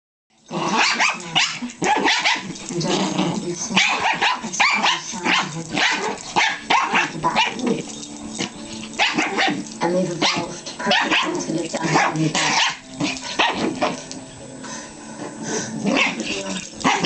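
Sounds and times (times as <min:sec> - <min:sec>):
dogs barking and yipping: 0:00.4 - 0:14.3, 0:15.6 - 0:17.0
dogs growling: 0:00.4 - 0:17.0.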